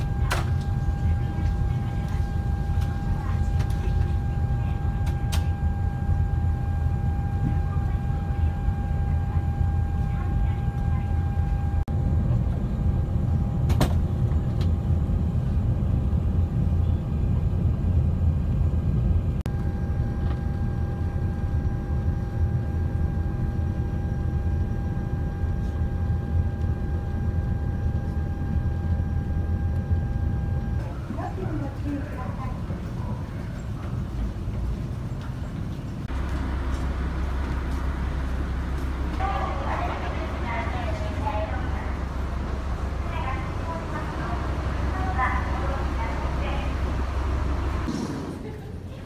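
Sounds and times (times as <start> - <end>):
loud low drone: 0.0 - 31.0, 36.0 - 48.6
thin steady whine: 0.0 - 49.0.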